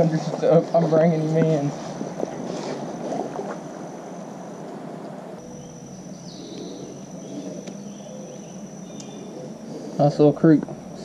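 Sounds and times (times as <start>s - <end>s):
insects droning: 0.0s - 11.0s
outdoor background hiss: 0.0s - 11.0s.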